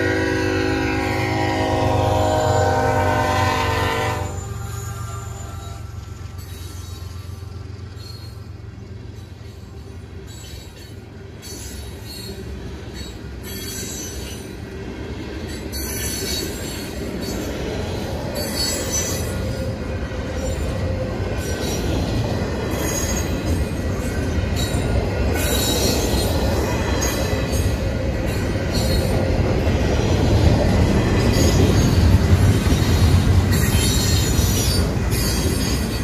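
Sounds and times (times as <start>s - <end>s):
freight train rumbling past: 0.0s - 36.0s
train wheels squealing on rails: 0.0s - 36.0s.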